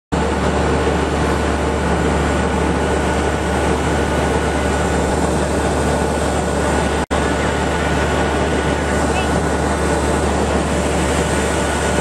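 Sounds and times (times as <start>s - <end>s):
aircraft machinery low hum: 0.1s - 12.0s
high steady whine: 0.1s - 12.0s.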